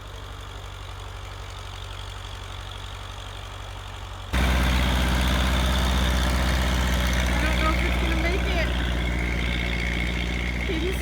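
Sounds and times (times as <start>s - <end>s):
small vehicle engine running: 0.0s - 11.0s.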